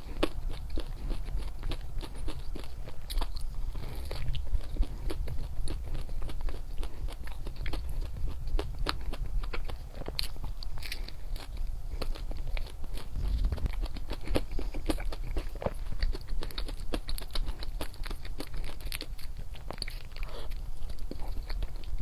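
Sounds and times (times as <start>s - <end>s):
crunching and chewing chocolate: 0.0s - 22.0s.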